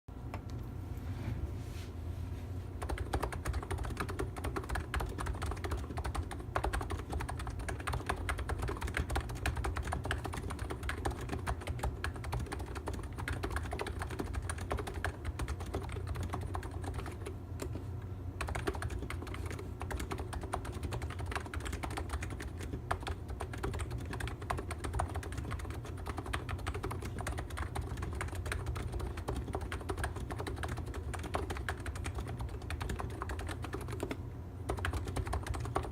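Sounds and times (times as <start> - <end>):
fast keyboard typing: 2.8 - 17.8, 18.4 - 35.9.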